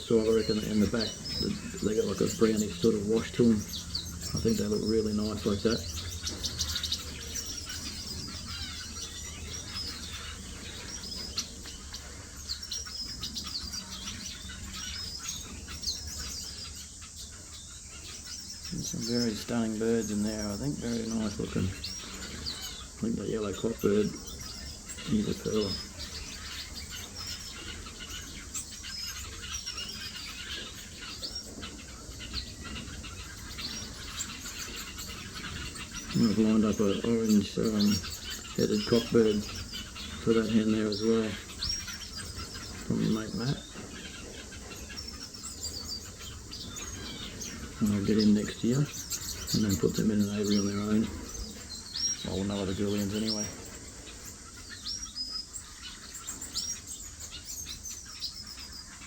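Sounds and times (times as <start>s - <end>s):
finches chirping: 0.0s - 59.0s.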